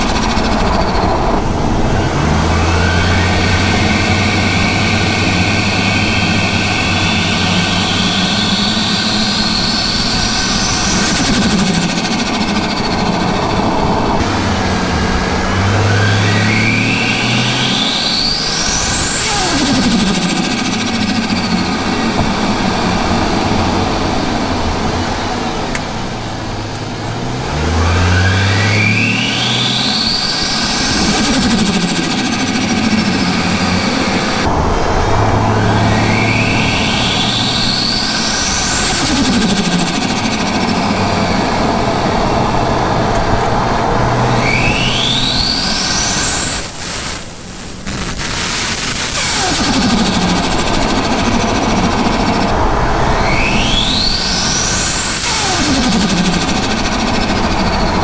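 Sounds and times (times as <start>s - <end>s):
turbo whistle rising: 0.0s - 25.8s, 27.8s - 43.1s, 43.9s - 58.0s
car engine idling and revving: 0.0s - 58.0s.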